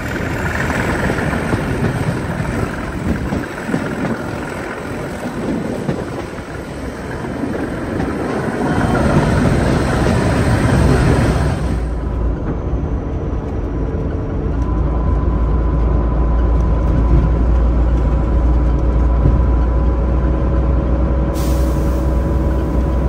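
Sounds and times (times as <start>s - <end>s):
bus engine under load: 0.0s - 23.0s
road noise: 0.0s - 23.0s.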